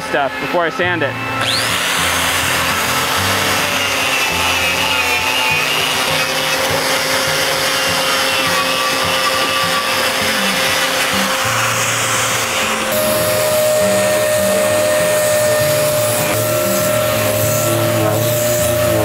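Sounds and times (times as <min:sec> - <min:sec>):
wire wheel grinder scrubbing wood: 0:00.0 - 0:19.0.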